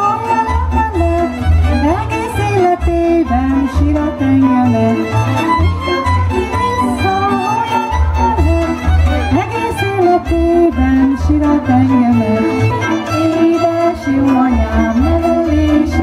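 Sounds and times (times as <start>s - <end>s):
folk fiddle dance music: 0.0s - 16.0s.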